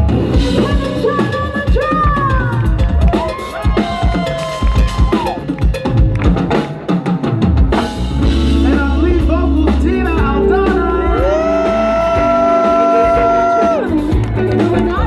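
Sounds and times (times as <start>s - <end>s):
bass line: 0.0s - 6.6s, 7.5s - 15.0s
drum kit hits: 0.0s - 15.0s.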